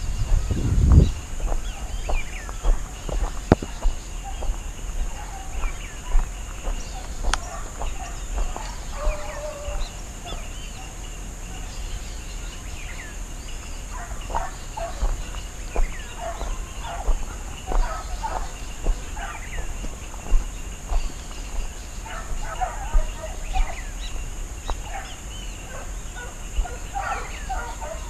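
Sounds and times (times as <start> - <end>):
birds chirping and clucking: 0.0 - 28.0.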